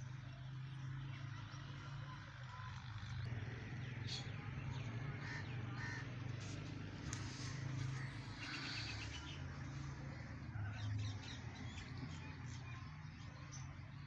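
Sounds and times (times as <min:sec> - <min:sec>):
birds calling: 0:02.3 - 0:14.0.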